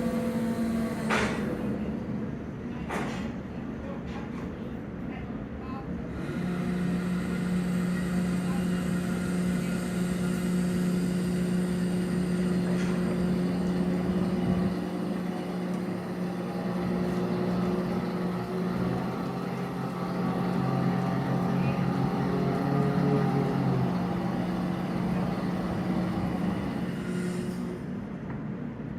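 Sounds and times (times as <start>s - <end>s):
marine engines droning: 0.0s - 3.2s, 3.8s - 28.9s.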